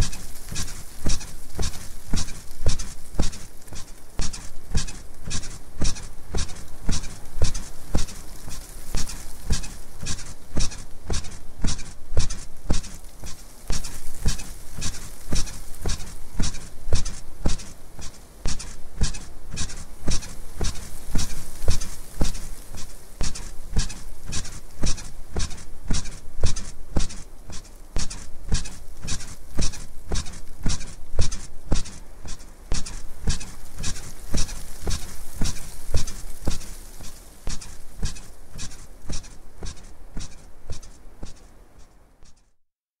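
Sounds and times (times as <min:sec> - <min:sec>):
bed squeaking rhythmically: 0:00.0 - 0:42.5.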